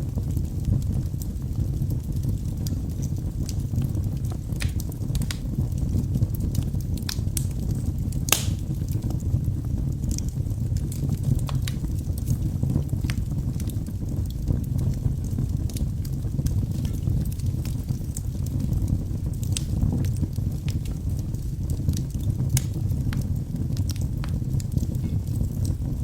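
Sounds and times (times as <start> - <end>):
fire flames rumbling: 0.0 - 26.0
logs crackling and popping: 0.0 - 26.0.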